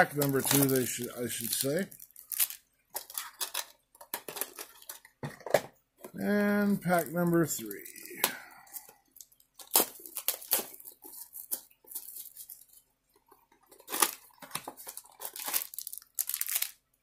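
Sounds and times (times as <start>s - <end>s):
plastic wrapper crinkling: 0.0s - 5.2s, 6.8s - 17.0s.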